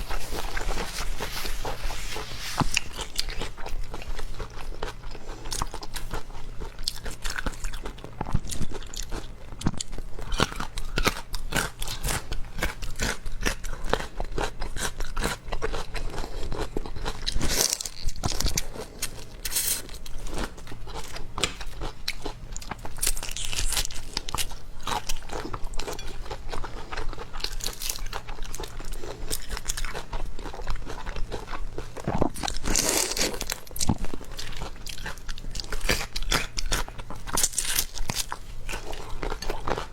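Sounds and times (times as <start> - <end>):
chewing and crunching seafood: 0.0 - 39.9.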